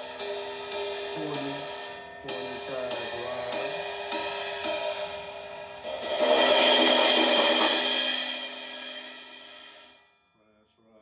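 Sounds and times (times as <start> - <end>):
ride cymbal ringing: 0.0 - 9.8.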